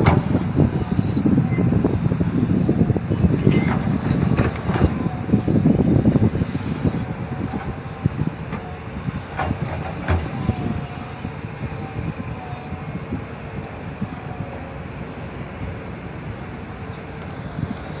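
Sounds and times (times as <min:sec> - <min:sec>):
heavy diesel machinery running: 0:00.0 - 0:18.0.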